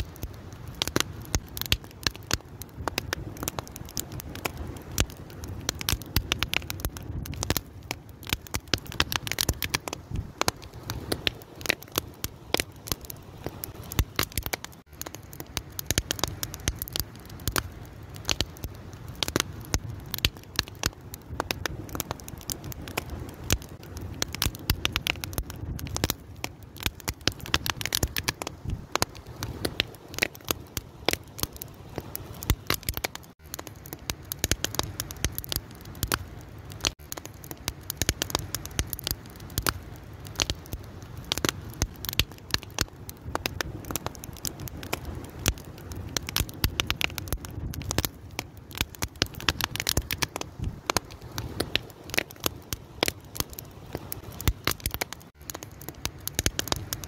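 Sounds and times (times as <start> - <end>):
low rumble of flame: 0.0 - 57.0
wood fire crackling and popping: 0.0 - 57.0.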